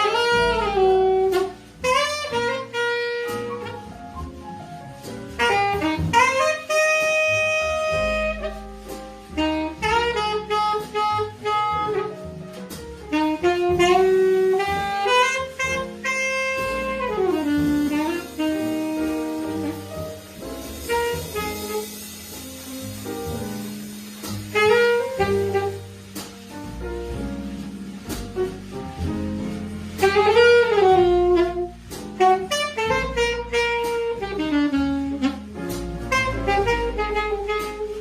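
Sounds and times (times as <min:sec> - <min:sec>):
alto saxophone jazz ballad: 0:00.0 - 0:38.0
bass accompaniment: 0:00.0 - 0:38.0
piano accompaniment: 0:00.0 - 0:38.0.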